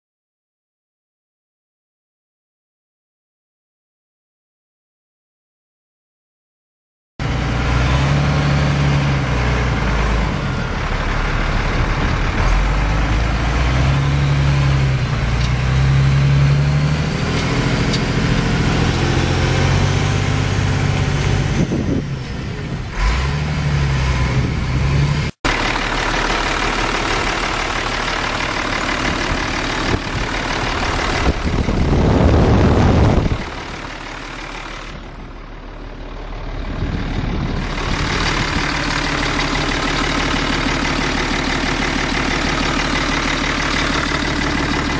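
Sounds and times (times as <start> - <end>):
diesel truck engine running: 7.2 - 44.9.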